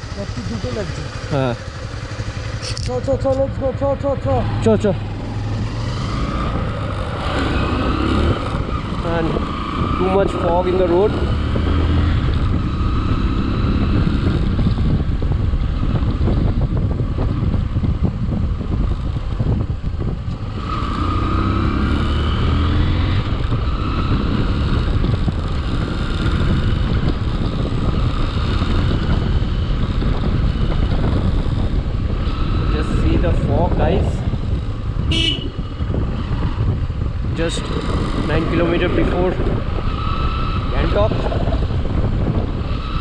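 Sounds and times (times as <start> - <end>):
motorcycle engine running: 0.0 - 43.0
road and wind noise: 0.0 - 43.0.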